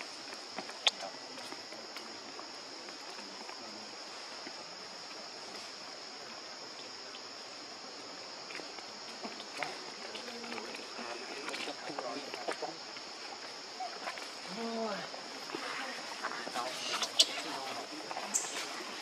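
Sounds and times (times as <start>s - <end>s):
faint hiss: 0.0s - 19.0s
insect chorus drone: 0.0s - 19.0s.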